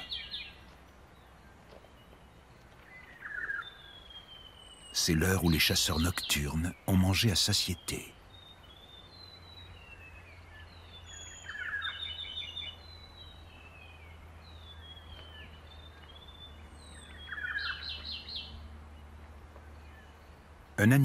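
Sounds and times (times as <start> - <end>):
rapid chirping bird trills: 0.0 - 21.0.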